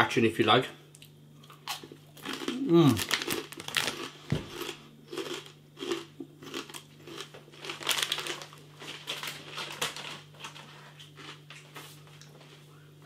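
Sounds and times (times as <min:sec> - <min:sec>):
low steady hum: 0:00.0 - 0:13.0
crunching pork scratchings: 0:01.4 - 0:12.6.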